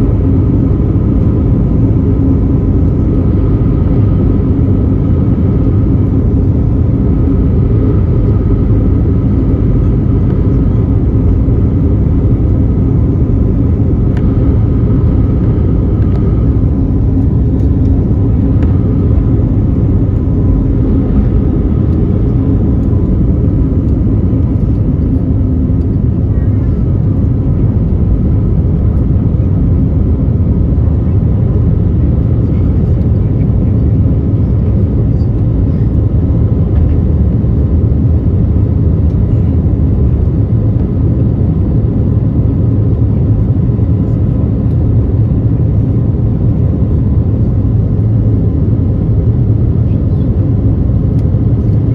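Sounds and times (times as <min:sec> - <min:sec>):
jet engines rumbling in cabin: 0:00.0 - 0:51.9.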